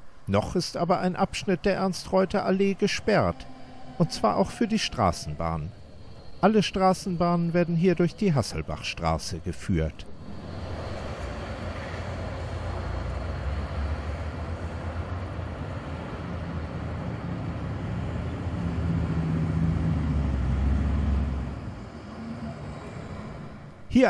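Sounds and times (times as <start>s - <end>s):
street traffic: 0.0s - 24.0s
tram running: 0.0s - 24.0s.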